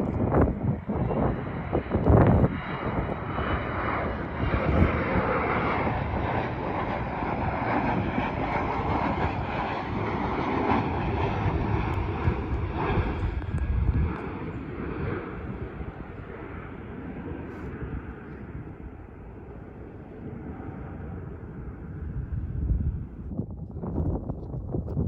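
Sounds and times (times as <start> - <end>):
airliner engines rushing: 0.0 - 25.0
wind buffeting microphone: 0.0 - 25.0.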